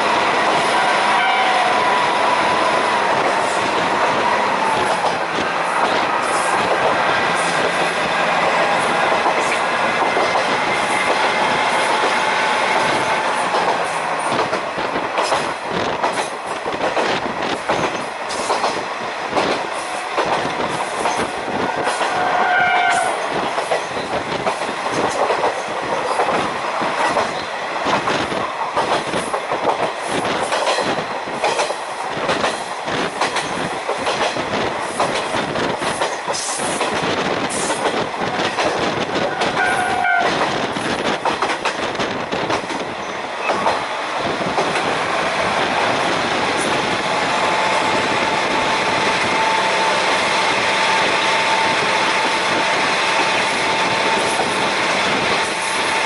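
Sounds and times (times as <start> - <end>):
train wheels clattering over rail joints: 2.2 - 56.0.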